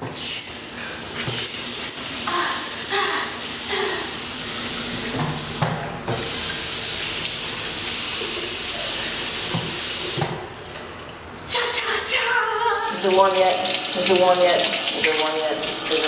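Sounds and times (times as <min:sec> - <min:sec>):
tap water running into basin: 0:00.5 - 0:11.1, 0:12.8 - 0:16.0.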